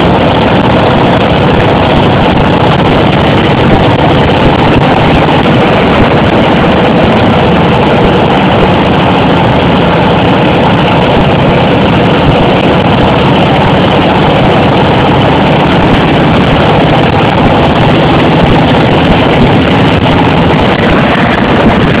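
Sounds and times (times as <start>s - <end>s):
motorcycle engine running loud: 0.0s - 22.0s.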